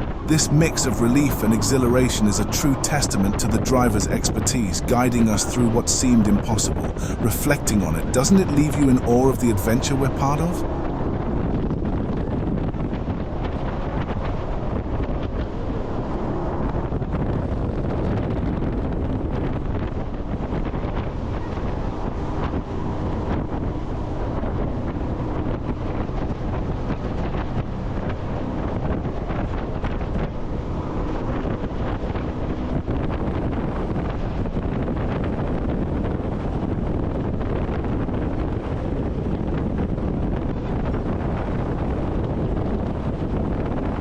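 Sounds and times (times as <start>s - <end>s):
boat engine and water rushing: 0.0s - 44.0s
wind buffeting microphone: 0.0s - 44.0s.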